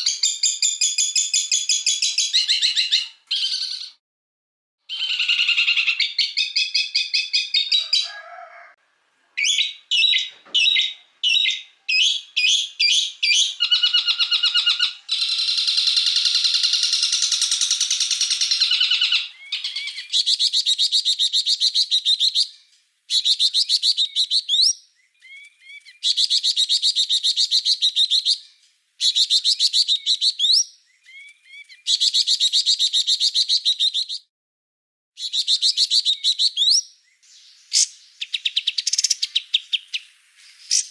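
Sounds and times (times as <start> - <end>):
songbird singing trills: 0.0 - 4.0, 4.9 - 8.1, 9.4 - 34.3, 35.2 - 40.9.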